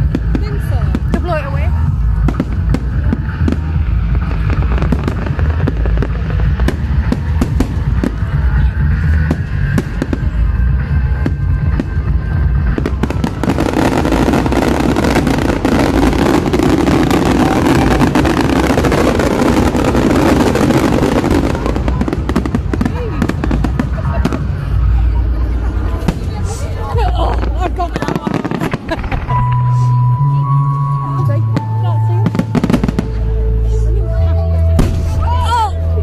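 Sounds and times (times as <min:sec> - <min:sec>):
crackling firework bursts: 0:00.0 - 0:29.6
fireworks banging: 0:00.0 - 0:35.9
low rumble: 0:00.0 - 0:36.0.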